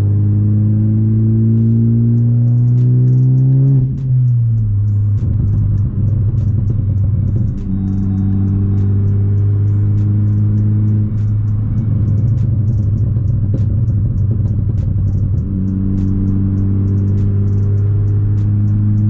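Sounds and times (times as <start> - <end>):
car engine drone: 0.0 - 19.0
road noise inside cabin: 0.0 - 19.0.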